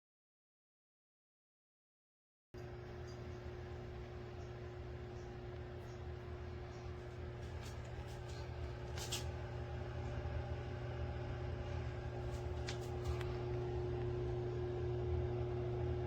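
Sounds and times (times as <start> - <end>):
heater fan hum: 2.6 - 16.0.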